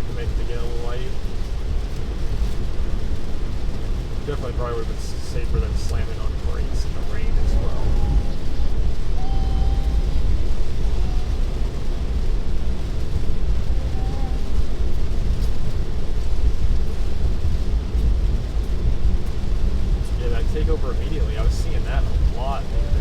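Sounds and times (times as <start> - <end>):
heavy rain: 0.0 - 23.0
tyre and road noise in car cabin: 0.0 - 23.0.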